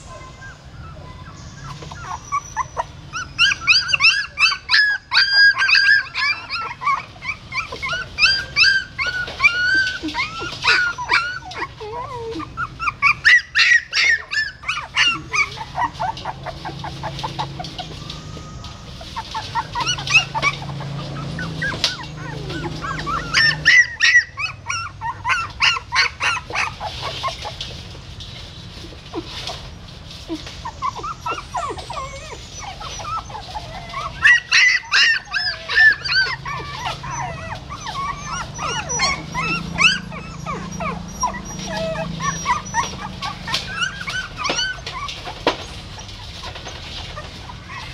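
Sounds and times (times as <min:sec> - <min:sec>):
puppies whimpering and squealing: 0:00.0 - 0:47.9.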